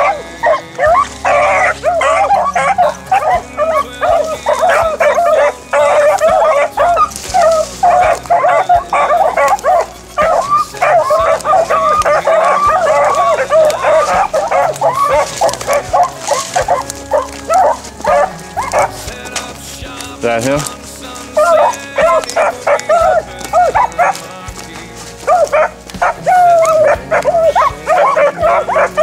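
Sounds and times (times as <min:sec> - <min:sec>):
hounds baying: 0:00.0 - 0:29.0.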